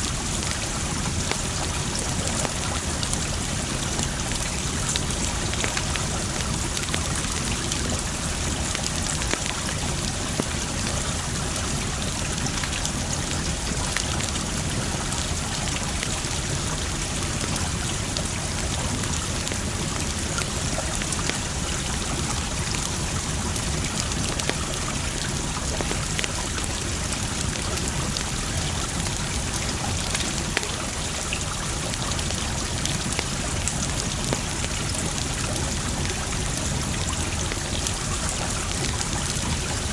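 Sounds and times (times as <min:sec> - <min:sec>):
running water: 0:00.0 - 0:39.9
wood fire crackling and popping: 0:00.1 - 0:39.8.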